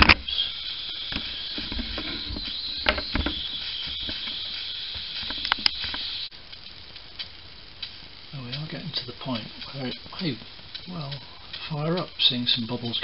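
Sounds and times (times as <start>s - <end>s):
sharp clicks and spits: 0.0s - 13.0s
steam hissing: 0.0s - 13.0s.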